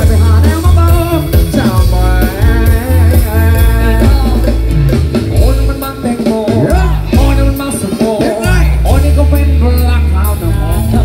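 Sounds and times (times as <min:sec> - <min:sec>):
loud band music over speakers: 0:00.0 - 0:11.0
person singing: 0:00.0 - 0:11.0.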